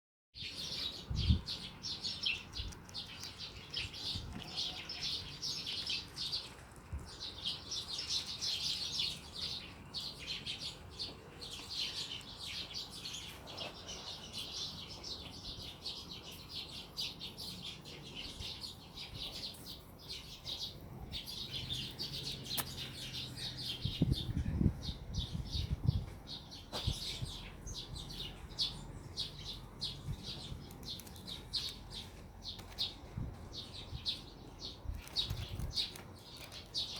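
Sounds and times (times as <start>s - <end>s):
small birds chirping: 0.4s - 36.9s.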